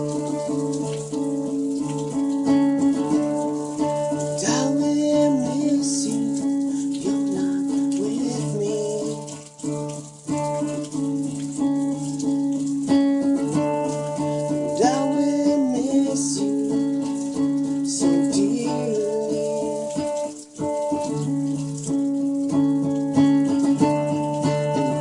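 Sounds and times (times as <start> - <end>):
plucked strings: 0.0 - 25.0.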